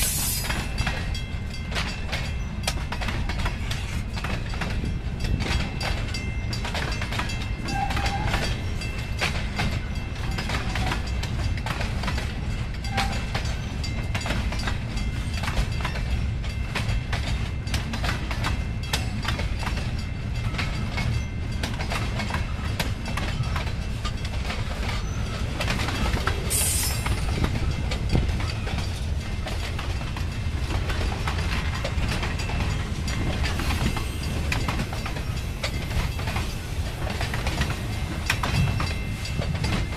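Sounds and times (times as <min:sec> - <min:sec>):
freight train rumbling past: 0:00.0 - 0:39.9
wheels clicking over rail joints: 0:00.1 - 0:39.9.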